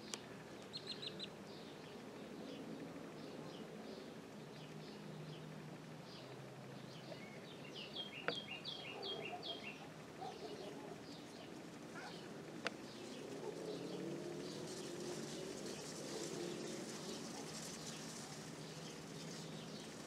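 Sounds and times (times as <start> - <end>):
wild birds chirping and calling: 0.1 - 5.0, 6.1 - 20.0.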